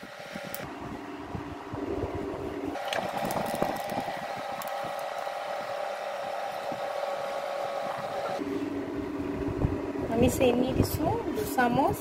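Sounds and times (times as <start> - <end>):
cooktop electrical hum and fan whine: 0.0 - 12.0.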